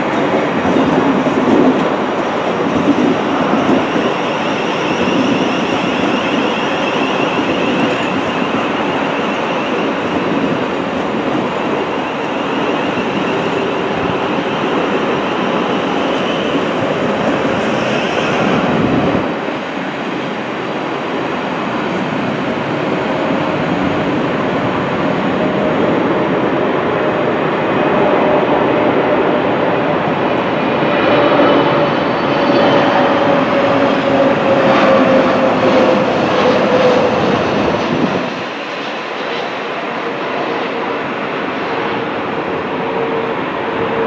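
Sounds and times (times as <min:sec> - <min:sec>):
train wheels rushing on rail: 0:00.0 - 0:44.0.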